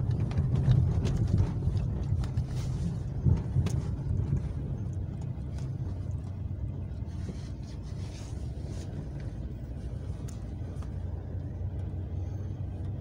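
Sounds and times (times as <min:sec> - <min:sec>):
car engine and tyres on snow: 0:00.0 - 0:13.0.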